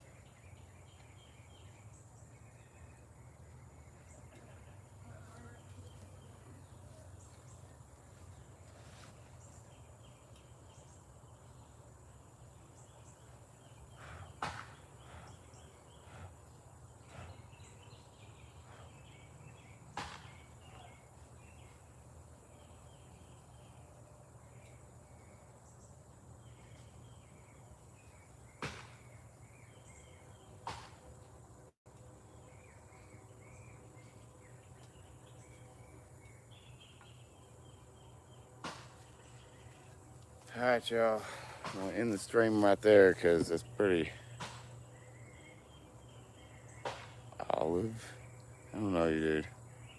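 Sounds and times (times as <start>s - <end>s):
insects chirping: 0.0s - 49.9s
low steady hum: 0.0s - 49.9s.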